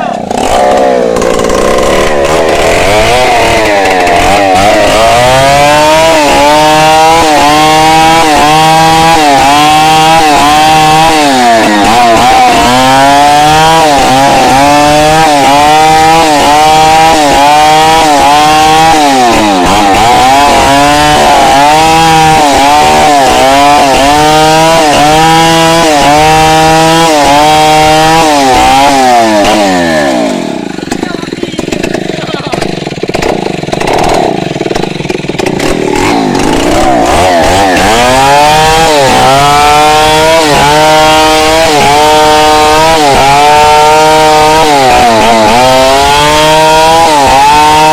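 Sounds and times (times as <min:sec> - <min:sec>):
chainsaw cutting log: 0:00.0 - 0:47.9.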